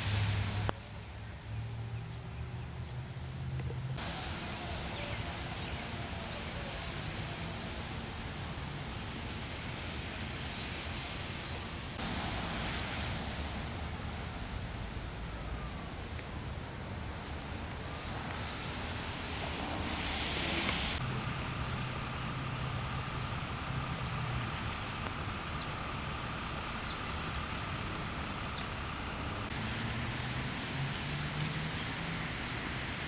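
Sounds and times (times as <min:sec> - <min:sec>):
rain: 0:00.0 - 0:01.8, 0:04.0 - 0:33.0.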